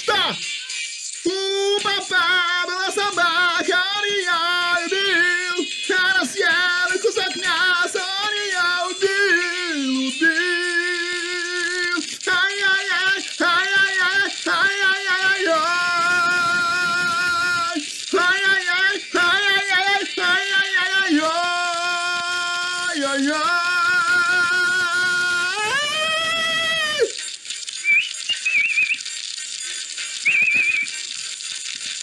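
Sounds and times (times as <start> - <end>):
high voice singing unaccompanied: 1.2 - 27.2.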